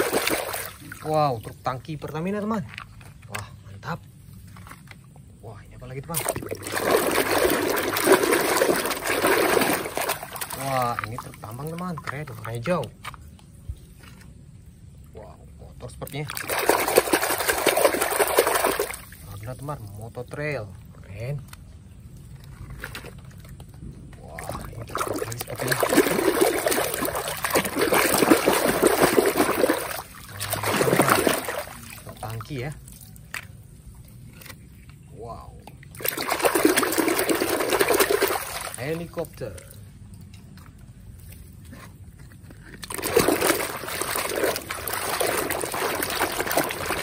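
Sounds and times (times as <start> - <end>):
muddy water splashing in a basin: 0.0 - 47.0.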